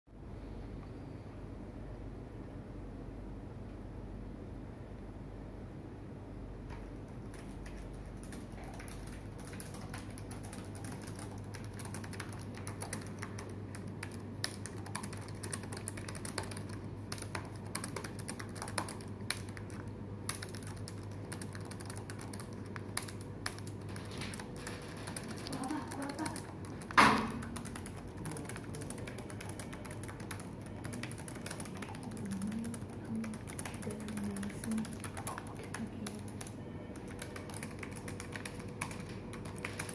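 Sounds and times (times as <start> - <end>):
laptop keyboard typing: 6.7 - 39.9.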